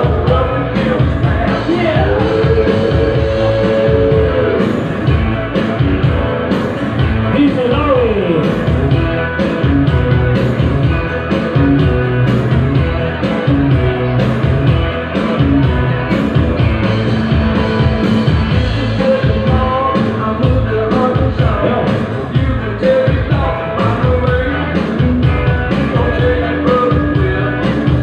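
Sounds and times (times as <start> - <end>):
loud dance music with heavy bass: 0.0 - 28.0.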